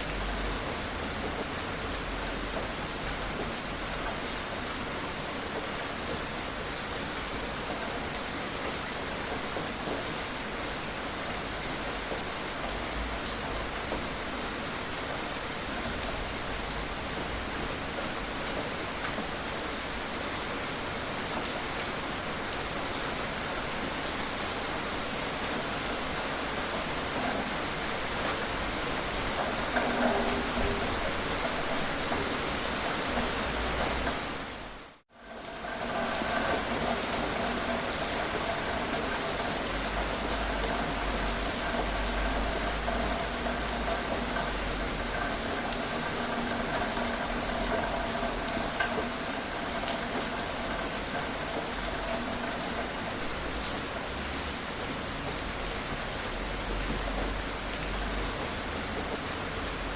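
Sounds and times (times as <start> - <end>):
gentle rainfall: 0.0 - 59.9.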